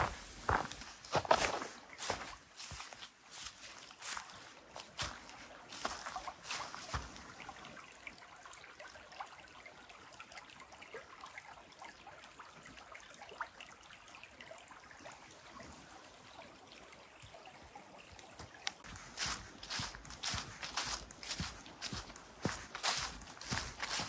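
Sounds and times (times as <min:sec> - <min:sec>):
brook trickling over rocks: 0:00.0 - 0:24.0.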